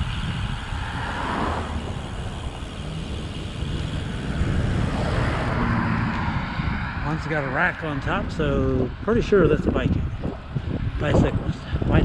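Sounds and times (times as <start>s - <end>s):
bicycle road noise: 0.0s - 12.0s
wind buffeting microphone: 0.0s - 12.0s.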